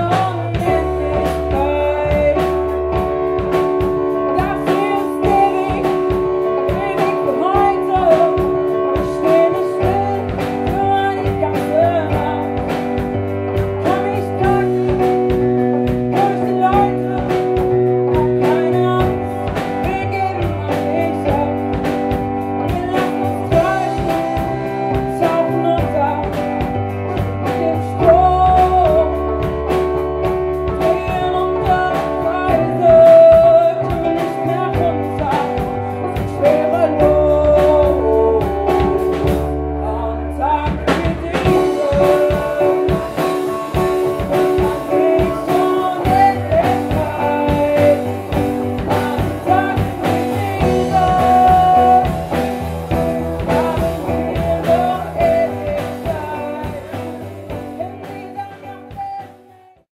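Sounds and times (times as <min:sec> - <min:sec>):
bass line: 0:00.0 - 0:59.6
electric guitar: 0:00.0 - 0:59.8
drums: 0:00.0 - 0:59.9
keyboard: 0:00.0 - 0:59.9
woman singing: 0:00.0 - 0:59.9.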